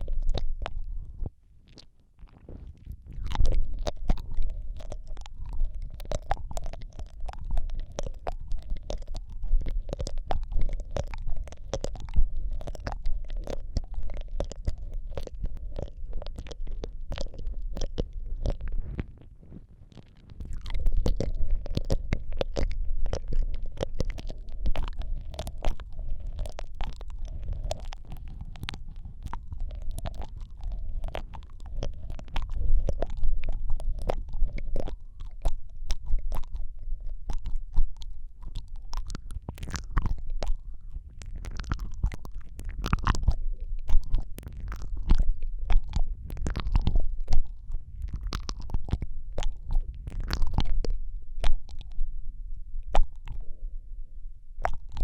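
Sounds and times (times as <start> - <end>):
wet mouth clicks and smacks: 0.0 - 19.3, 19.9 - 52.2, 52.8 - 53.6, 54.6 - 55.0
deep low rumble: 0.0 - 55.0.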